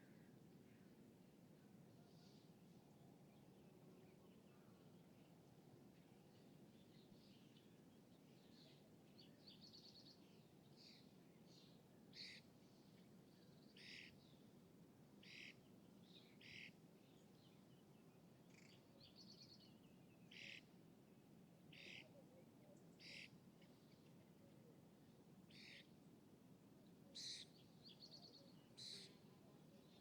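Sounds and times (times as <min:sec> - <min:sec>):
low hum of distant city: 0:00.0 - 0:30.0.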